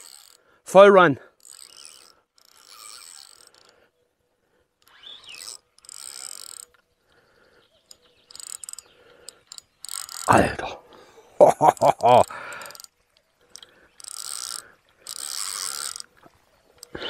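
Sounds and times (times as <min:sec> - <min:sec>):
fishing reel ratcheting: 0:00.0 - 0:10.6, 0:11.6 - 0:17.0.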